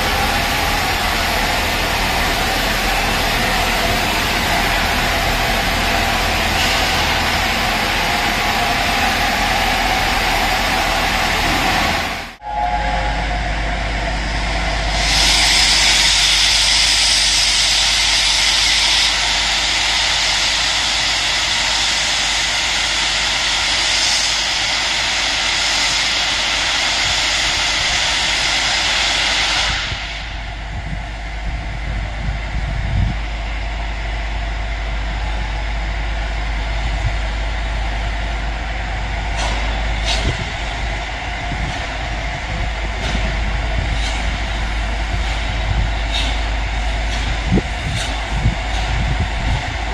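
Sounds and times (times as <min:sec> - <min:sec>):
steam locomotive blowing off steam: 0:00.0 - 0:35.6, 0:36.6 - 0:49.9.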